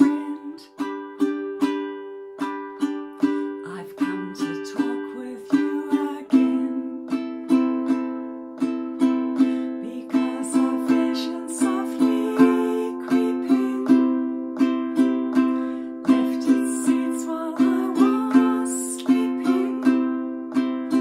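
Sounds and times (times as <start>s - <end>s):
ukulele strummed slowly: 0.0s - 21.0s.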